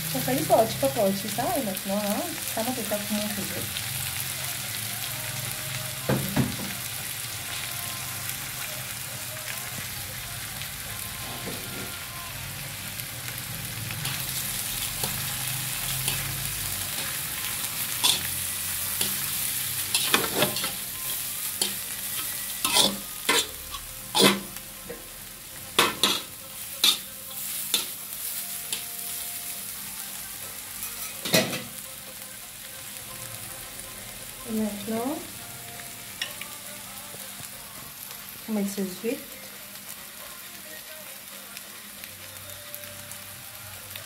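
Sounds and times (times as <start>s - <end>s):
noodles sizzling in a wok: 0.0s - 44.0s.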